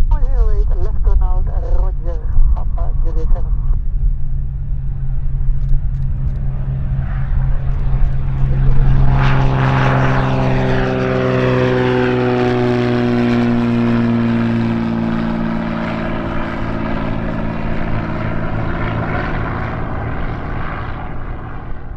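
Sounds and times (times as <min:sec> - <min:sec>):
airplane engine and propeller droning: 0:00.0 - 0:21.9.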